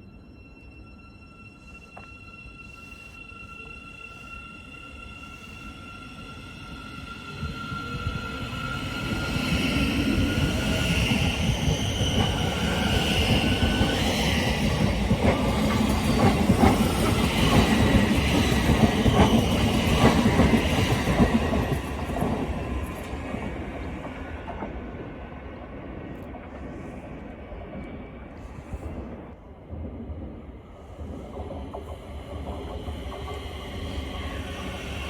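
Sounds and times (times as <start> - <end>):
train wheel squeal: 0.0 - 25.1, 30.7 - 35.0
passenger train passing: 0.0 - 35.0.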